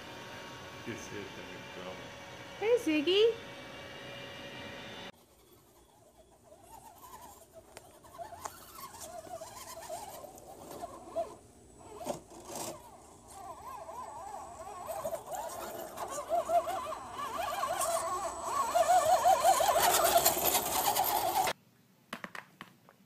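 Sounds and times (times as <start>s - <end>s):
toy truck electric motor whining: 0.0s - 21.6s.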